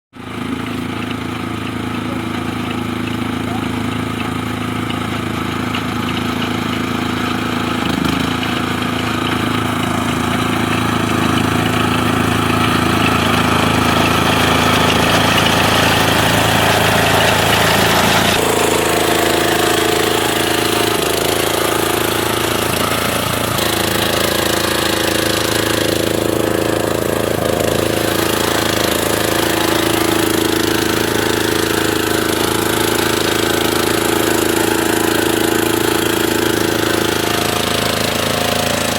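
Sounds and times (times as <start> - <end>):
harvester engine running: 0.2 - 38.9.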